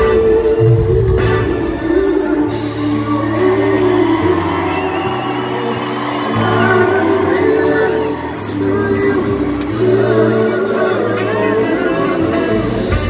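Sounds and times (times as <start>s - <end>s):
live band playing: 0.0s - 13.0s
person singing: 0.0s - 13.0s.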